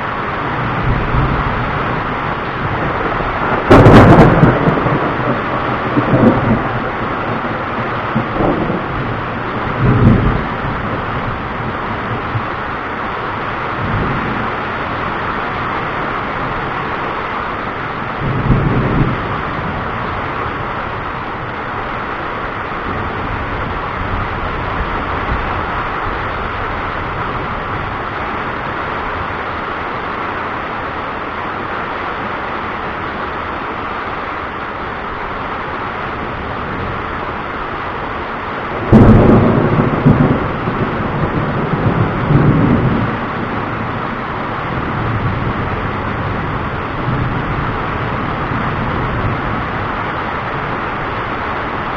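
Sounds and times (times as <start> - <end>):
thunder clap and rumble: 0.0 - 30.1, 38.1 - 51.9
rain hissing: 0.0 - 51.9.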